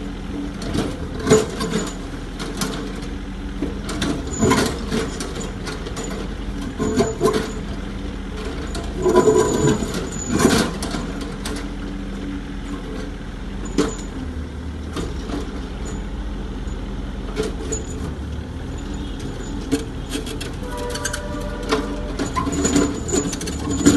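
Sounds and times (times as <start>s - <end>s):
excavator engine hum: 0.0s - 23.9s
knocks and clanks: 0.5s - 11.8s, 12.7s - 14.2s, 14.8s - 16.1s, 18.8s - 23.9s.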